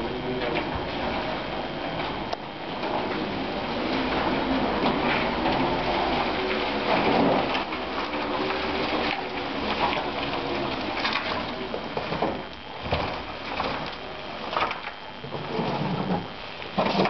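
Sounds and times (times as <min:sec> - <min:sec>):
faint steady hum: 0:00.0 - 0:17.0
tyres crackling on gritty floor: 0:00.0 - 0:17.0.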